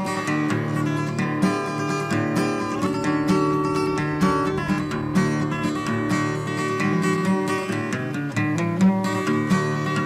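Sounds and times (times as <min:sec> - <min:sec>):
acoustic guitar strummed and plucked: 0:00.0 - 0:10.0.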